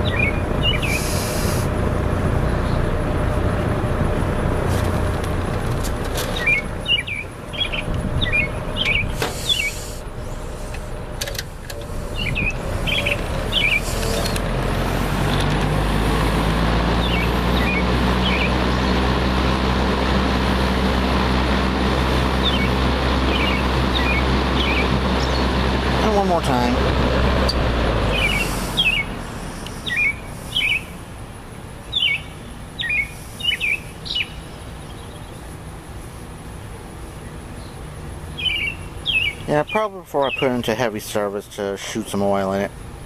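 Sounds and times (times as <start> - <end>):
birds chirping: 0.0 - 1.7, 2.3 - 3.2, 6.2 - 19.6, 22.0 - 42.7
box fan motor hum: 0.0 - 39.6.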